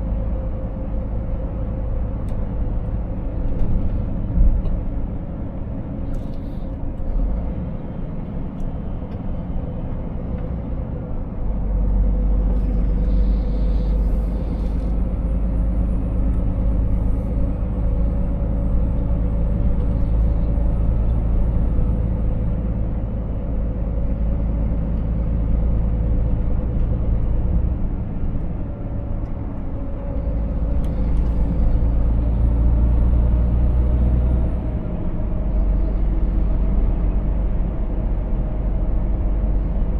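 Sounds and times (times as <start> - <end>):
truck engine rumbling: 0.0 - 39.9.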